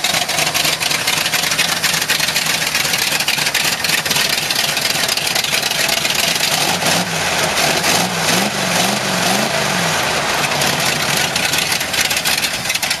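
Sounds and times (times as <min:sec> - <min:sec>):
vee eight engine revving: 0:00.0 - 0:13.0.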